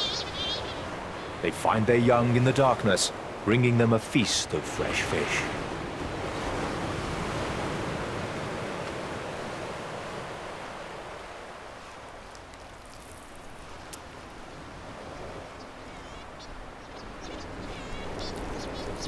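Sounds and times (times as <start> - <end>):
sea surf washing: 0.0 - 19.0
wind: 0.0 - 19.0.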